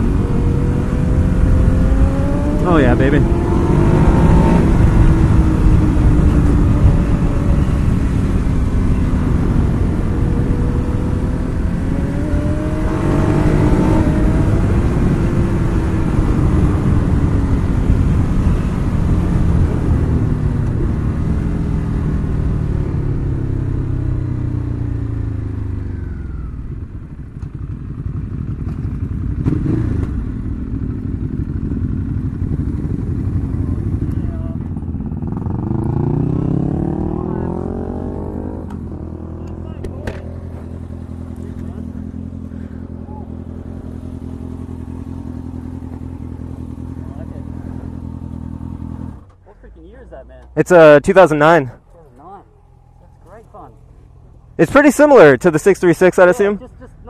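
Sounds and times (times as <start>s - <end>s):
motorcycle engine revving: 0.0s - 49.5s.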